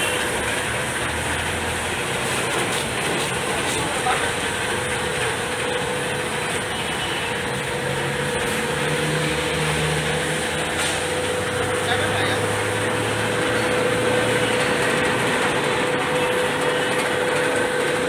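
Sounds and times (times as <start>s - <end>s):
constant motor hum: 0.0s - 18.0s
peeling machine running: 0.0s - 18.0s.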